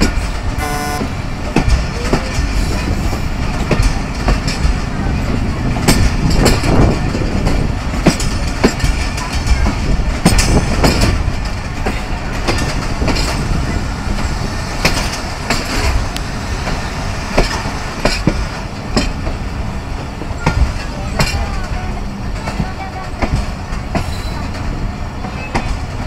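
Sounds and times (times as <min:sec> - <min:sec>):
train rumbling: 0:00.0 - 0:26.0
wheels clacking over rail joints: 0:00.0 - 0:26.0.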